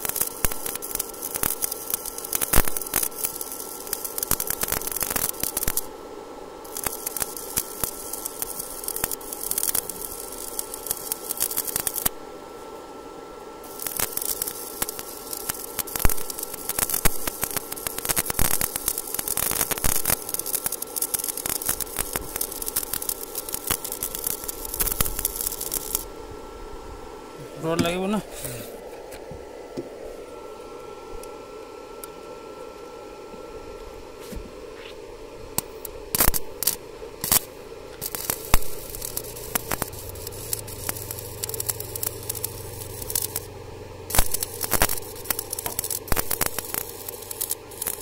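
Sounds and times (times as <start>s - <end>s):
welding arc crackling: 0.0s - 12.8s, 13.5s - 26.2s, 27.0s - 48.0s
faint steady hum: 0.0s - 48.0s.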